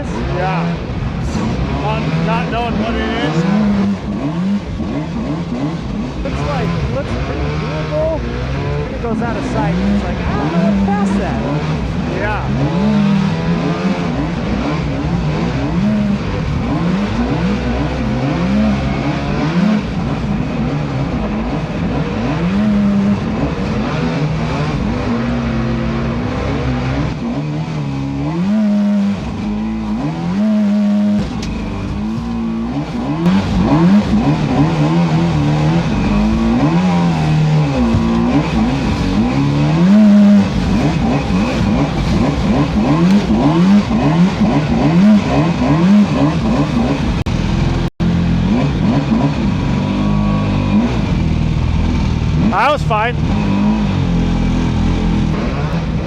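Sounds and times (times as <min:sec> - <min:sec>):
boat motor revving: 0:00.0 - 0:56.0.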